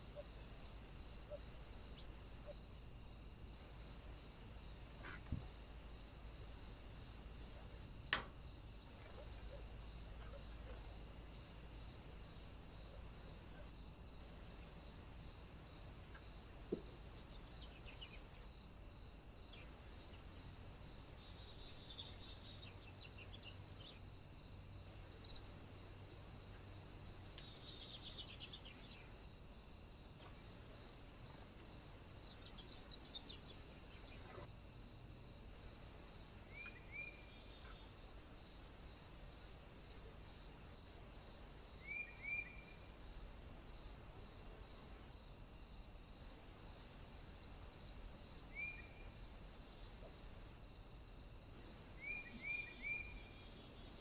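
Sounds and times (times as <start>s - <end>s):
steady high-pitched hiss: 0.0s - 54.0s.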